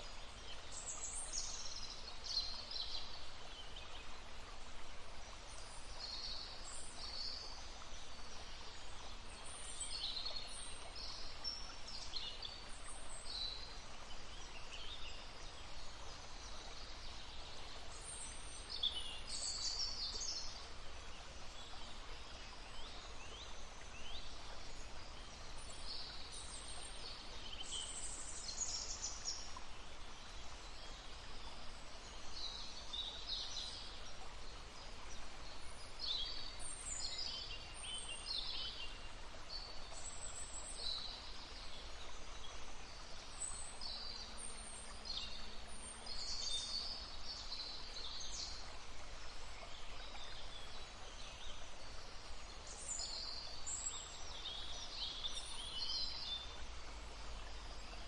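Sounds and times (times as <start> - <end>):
babbling brook: 0.0 - 58.0
songbirds chirping: 0.0 - 58.0.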